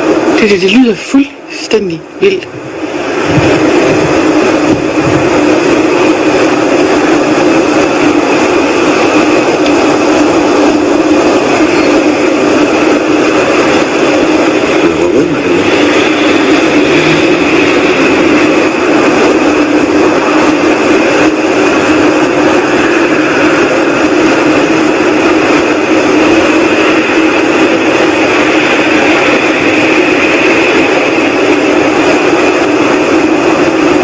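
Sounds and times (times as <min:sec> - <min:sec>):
loud whooshing drone in sky: 0:00.0 - 0:34.0.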